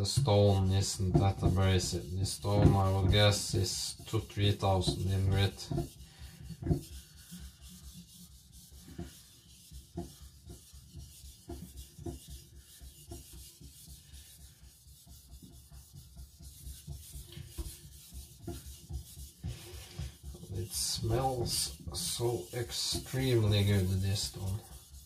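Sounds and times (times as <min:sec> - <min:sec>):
blade rubbing on whetstone: 0:00.4 - 0:25.0.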